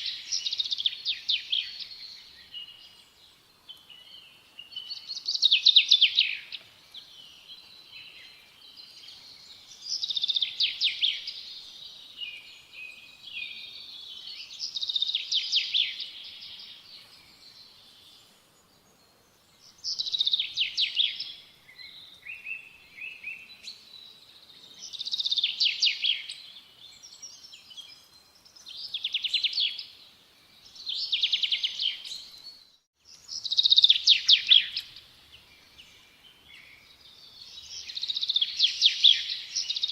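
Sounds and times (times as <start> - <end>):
faint bird chirps: 0.0 - 39.9.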